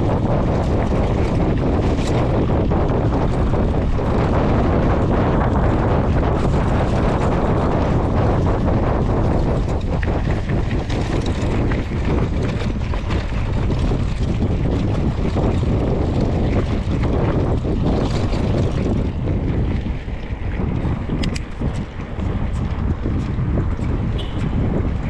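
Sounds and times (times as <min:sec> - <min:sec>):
bike clicks and knocks: 0:00.0 - 0:25.0
bike tyre rumble: 0:00.0 - 0:25.0
wind buffeting microphone: 0:00.0 - 0:25.0.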